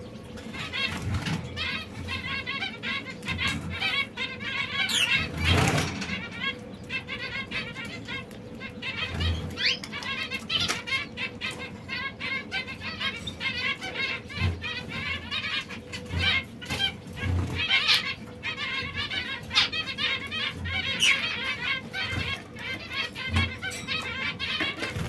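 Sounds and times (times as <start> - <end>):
canaries singing and twittering: 0.0 - 25.0.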